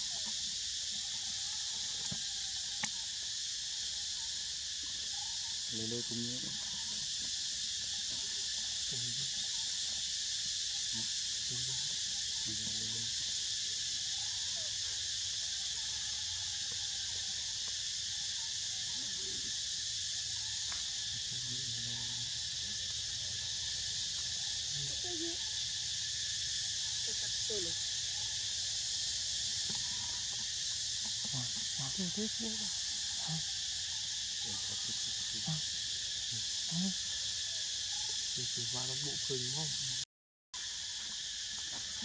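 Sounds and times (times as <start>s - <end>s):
high-pitched insect chorus: 0.0s - 40.0s, 40.6s - 42.0s.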